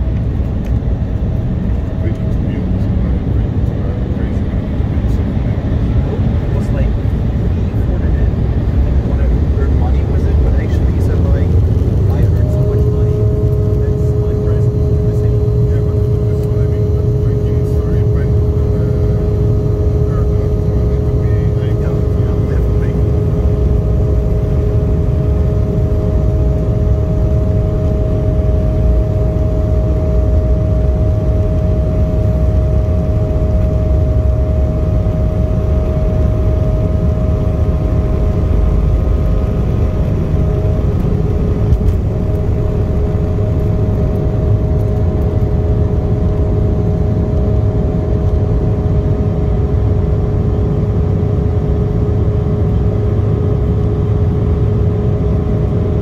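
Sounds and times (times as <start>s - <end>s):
heavy cabin rumble: 0.0s - 56.0s
jet engine whine: 0.0s - 56.0s.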